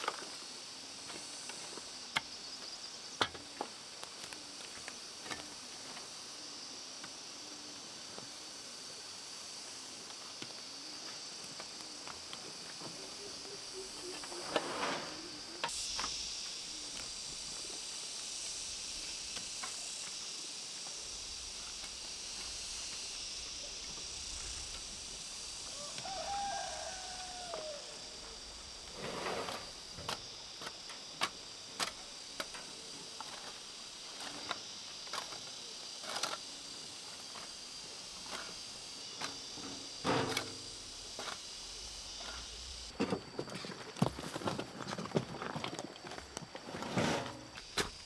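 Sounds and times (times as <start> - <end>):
insect drone: 0.0 - 48.0.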